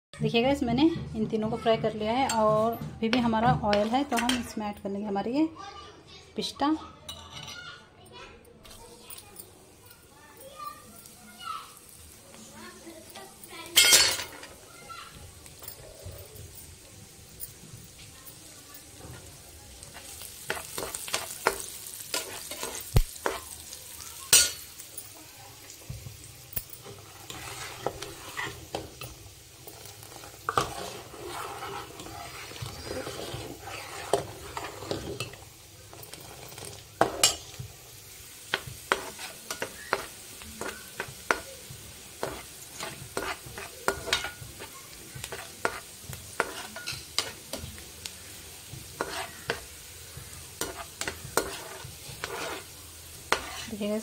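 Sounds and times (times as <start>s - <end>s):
nuts sizzling in a pan: 1.6s - 5.4s, 8.7s - 54.0s
spoon scraping a pan: 1.9s - 4.7s, 7.1s - 7.8s, 11.8s - 16.8s, 17.9s - 47.9s, 48.6s - 54.0s.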